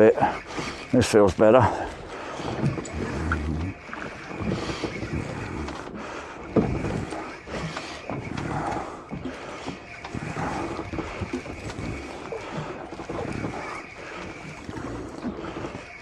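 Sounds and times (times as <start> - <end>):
small boat rocking on water: 0.0 - 16.0
wind buffeting microphone: 0.0 - 16.0.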